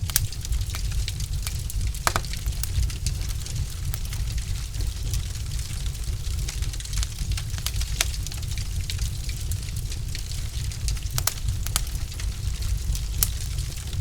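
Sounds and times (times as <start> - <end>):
low rumble of flames: 0.0 - 14.0
wood fire crackling: 0.0 - 14.0.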